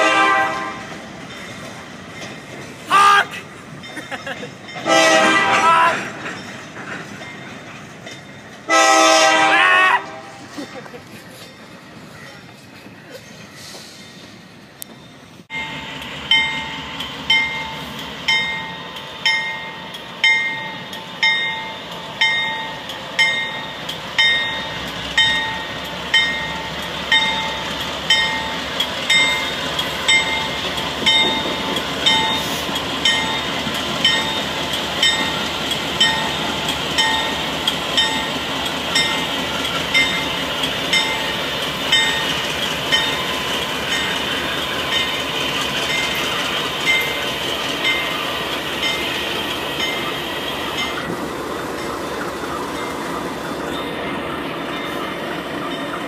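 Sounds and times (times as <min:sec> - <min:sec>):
passing train rumble: 0:00.0 - 0:56.0
railroad bell ringing: 0:00.0 - 0:56.0.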